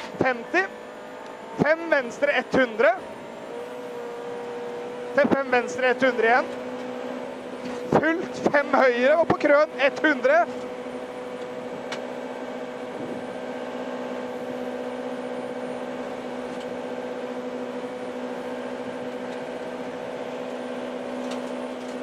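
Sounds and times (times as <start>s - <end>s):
rally car engine at full throttle: 0.0s - 22.0s.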